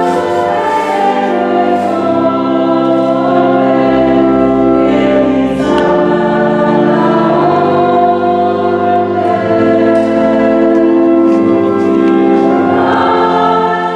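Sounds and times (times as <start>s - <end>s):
choir singing a hymn: 0.0s - 13.9s.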